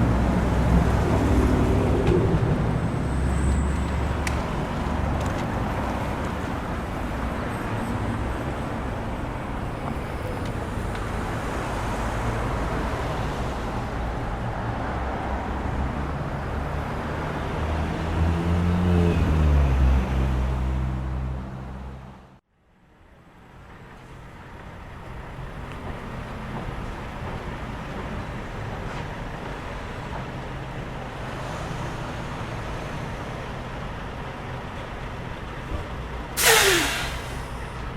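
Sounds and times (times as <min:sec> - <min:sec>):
road noise from passing cars: 0:00.0 - 0:37.9.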